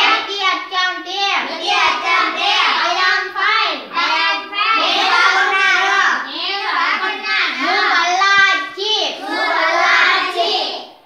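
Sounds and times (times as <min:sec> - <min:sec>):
children chanting: 0:00.0 - 0:00.5, 0:01.4 - 0:11.0.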